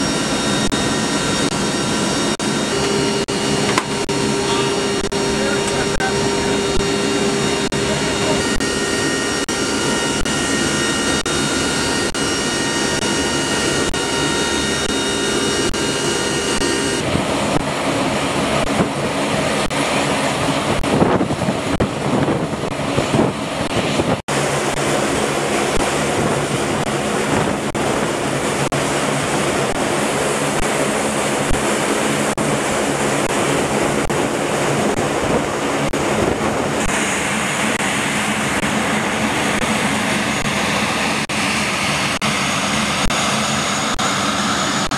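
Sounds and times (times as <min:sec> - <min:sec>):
aircraft engine noise: 0:00.0 - 0:44.9
turboprop engines droning: 0:00.0 - 0:44.9.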